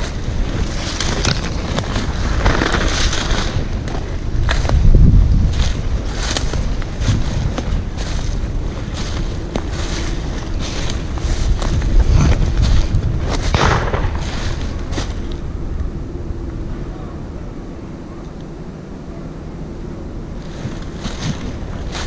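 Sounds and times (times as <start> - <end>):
rushing wind gust: 0.0 - 22.0
wind buffeting microphone: 0.0 - 22.0.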